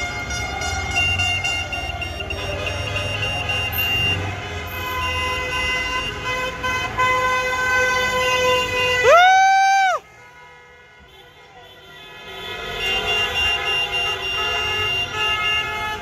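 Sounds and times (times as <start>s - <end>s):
car horns honking: 0.0s - 9.2s, 10.0s - 16.0s
engines rumbling: 0.0s - 16.0s.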